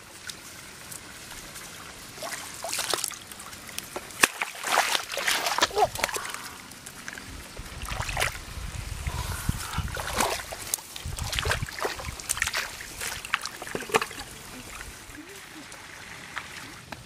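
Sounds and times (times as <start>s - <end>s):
splashing in muddy water: 0.2s - 16.9s.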